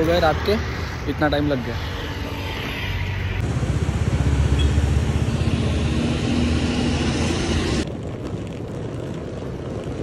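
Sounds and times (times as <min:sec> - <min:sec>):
road noise: 0:00.0 - 0:10.0
vehicle engine rumbling: 0:00.0 - 0:10.0.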